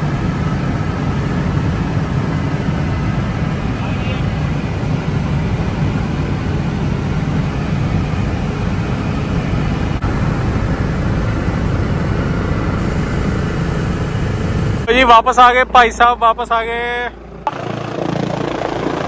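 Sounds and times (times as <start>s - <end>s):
helicopter engine and rotor noise: 0.0s - 19.0s.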